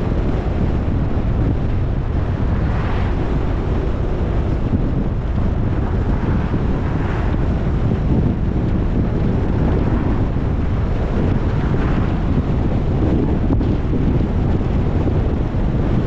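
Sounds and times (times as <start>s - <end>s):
road and engine rumble: 0.0s - 16.0s
wind rushing over microphone: 0.0s - 16.0s.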